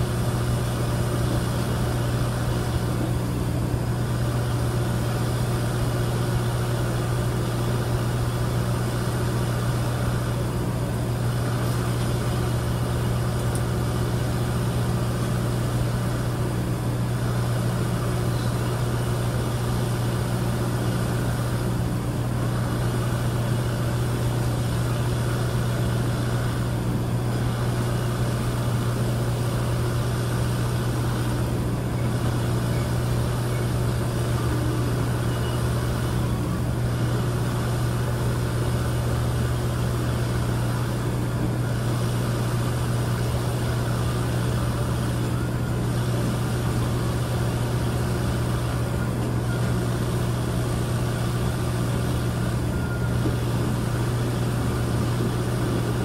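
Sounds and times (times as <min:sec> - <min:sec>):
low engine-like drone: 0:00.0 - 0:56.0.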